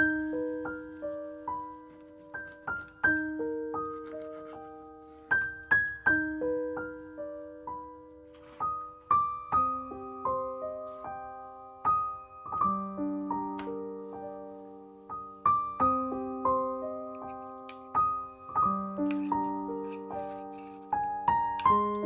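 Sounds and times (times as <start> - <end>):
gentle solo piano melody: 0.0 - 22.0.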